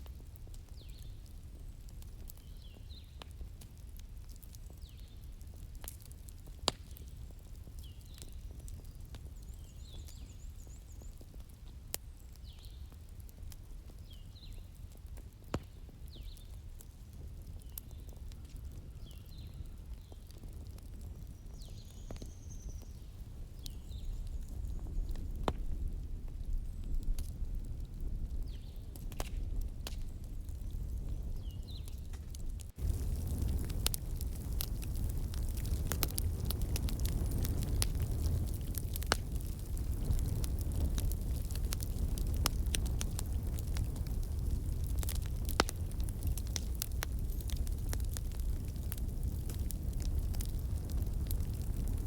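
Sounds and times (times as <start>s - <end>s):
wood fire crackling: 0.0s - 52.0s
small birds chirping: 0.7s - 3.3s, 4.6s - 5.3s, 6.8s - 13.0s, 13.9s - 14.8s, 15.4s - 16.6s, 17.5s - 25.6s, 26.4s - 50.3s.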